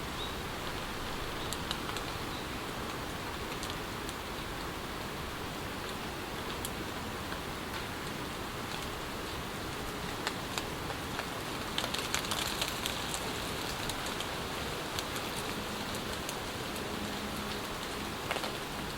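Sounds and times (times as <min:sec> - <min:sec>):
rain falling in a forest: 0:00.0 - 0:18.9
raindrops ticking close by: 0:00.0 - 0:18.9.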